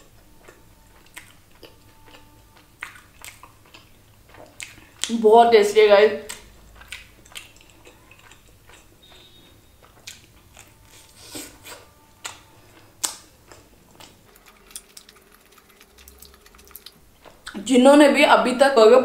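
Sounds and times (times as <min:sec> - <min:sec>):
chewing crispy food: 0:00.0 - 0:05.2, 0:06.2 - 0:11.2, 0:12.2 - 0:17.6.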